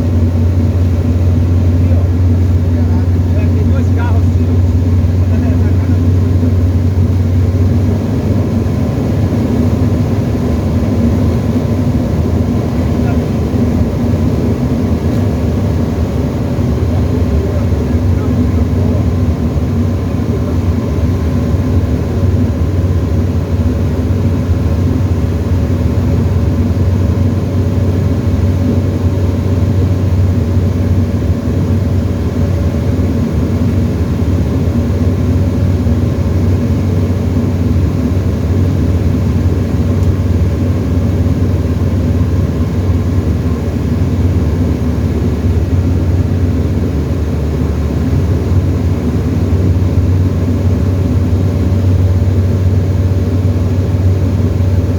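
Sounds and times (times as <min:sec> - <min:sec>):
aircraft engine and propeller droning: 0:00.0 - 0:54.9.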